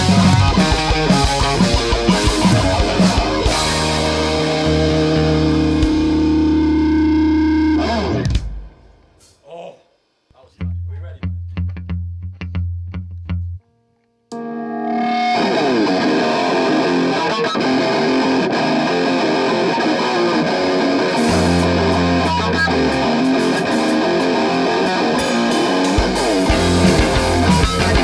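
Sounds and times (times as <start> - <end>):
rock band playing: 0.0 - 8.8, 14.4 - 28.0
bass guitar: 0.0 - 8.9, 10.6 - 13.8, 14.4 - 28.0
distorted electric guitar riff: 0.0 - 9.1, 14.3 - 28.0.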